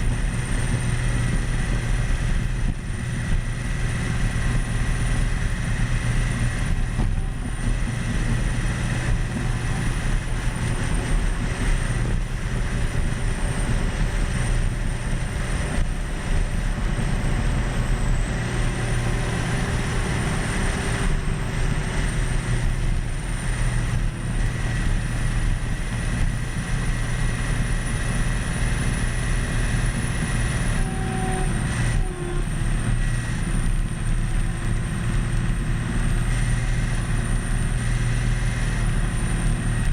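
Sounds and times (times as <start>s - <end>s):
bulldozer diesel drone: 0.0s - 39.9s.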